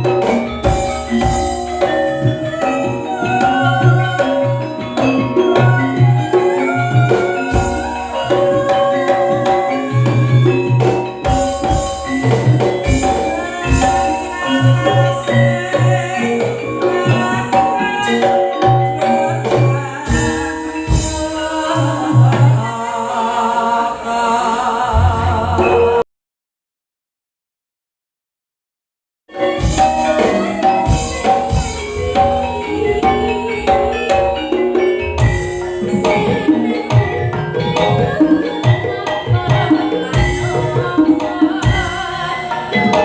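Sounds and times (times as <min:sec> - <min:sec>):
mallet-struck metal notes: 0:00.0 - 0:22.9, 0:29.3 - 0:43.0
rhythmic drum beat: 0:00.0 - 0:23.7, 0:24.9 - 0:26.0, 0:29.3 - 0:43.0.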